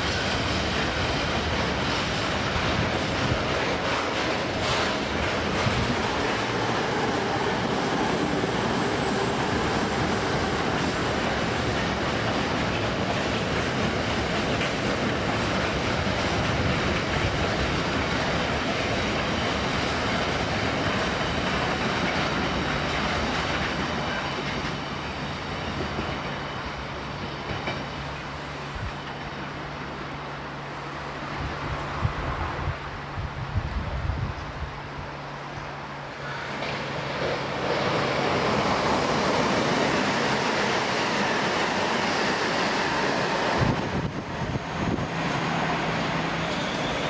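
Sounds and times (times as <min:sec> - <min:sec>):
train passing on rails: 0:00.0 - 0:47.0.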